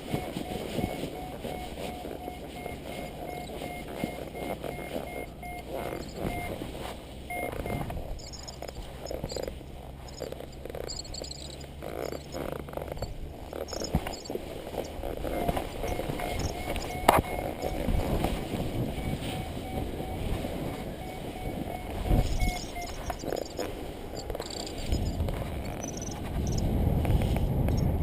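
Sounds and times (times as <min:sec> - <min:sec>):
faint high beeps: 0:00.0 - 0:06.6, 0:07.2 - 0:26.6
wind buffeting the microphone: 0:00.0 - 0:28.0.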